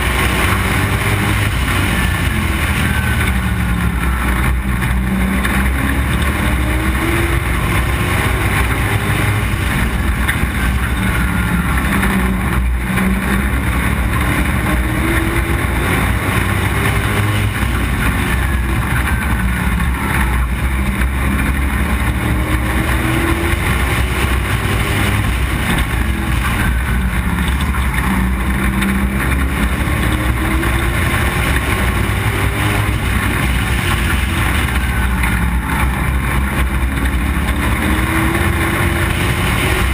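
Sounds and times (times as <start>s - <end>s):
race car engine accelerating: 0.0s - 39.9s
steady rushing noise: 0.0s - 39.9s.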